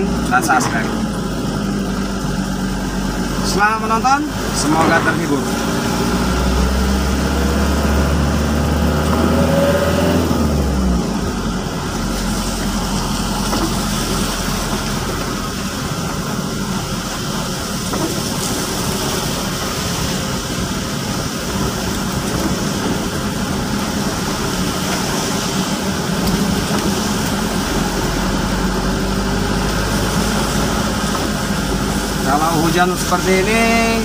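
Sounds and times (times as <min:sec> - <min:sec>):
car engine hum: 0:00.0 - 0:34.0
light rain: 0:00.0 - 0:34.0
tyres hissing on wet road: 0:00.0 - 0:34.0.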